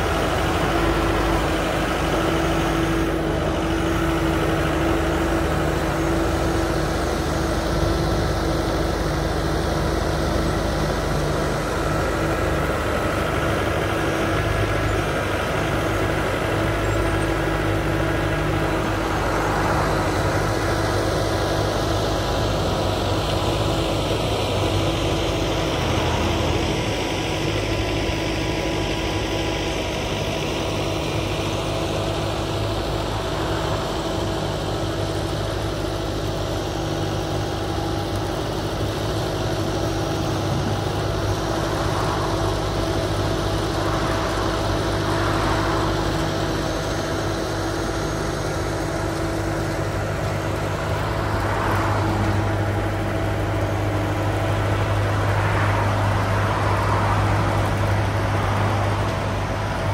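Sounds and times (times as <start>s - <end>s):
stump grinder engine running: 0.0s - 59.9s.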